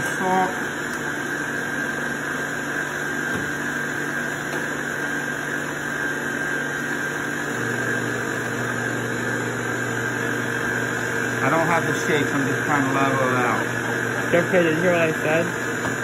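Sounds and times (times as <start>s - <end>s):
stand mixer motor humming: 0.0s - 16.0s.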